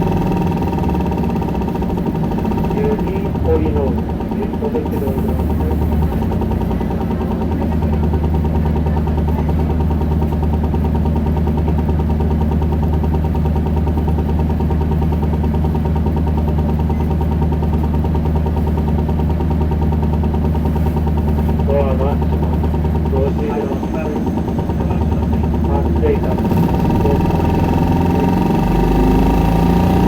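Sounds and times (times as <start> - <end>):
bus diesel engine hum: 0.0 - 30.0.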